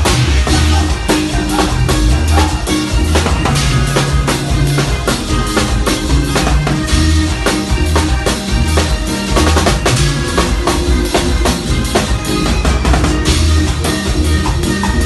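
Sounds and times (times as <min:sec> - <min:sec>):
bass line: 0:00.0 - 0:15.0
drum kit beating: 0:00.0 - 0:15.0.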